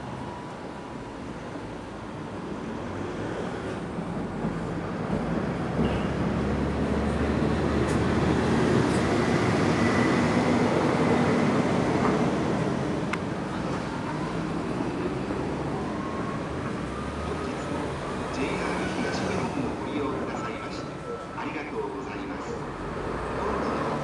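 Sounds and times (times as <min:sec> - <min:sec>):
electric train rumbling past: 0:00.0 - 0:24.0.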